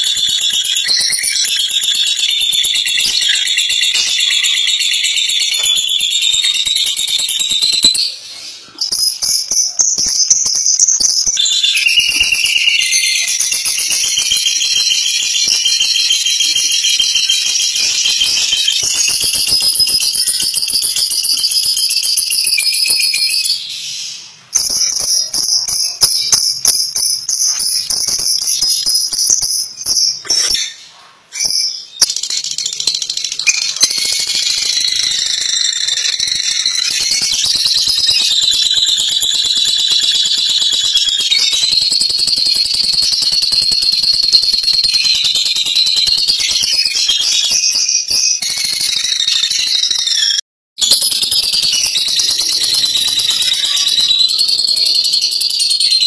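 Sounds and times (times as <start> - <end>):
bird high-pitched chattering rattle: 0.0 - 56.0.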